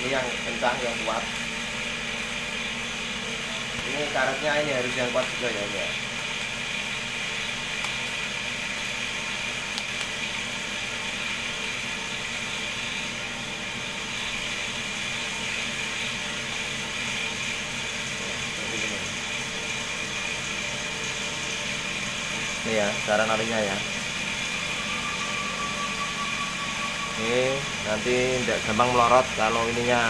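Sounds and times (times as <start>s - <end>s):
cotton candy machine humming: 0.0s - 30.0s.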